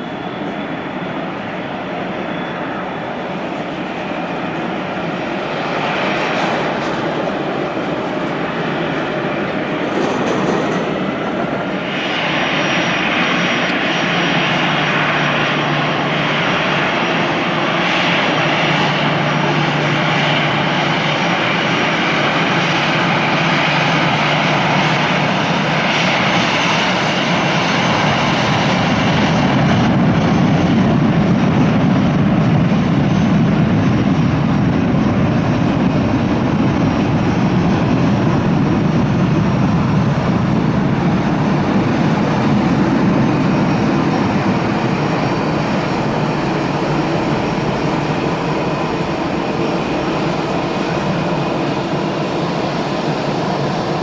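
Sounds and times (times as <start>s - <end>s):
jet engines at takeoff: 0.0s - 54.0s.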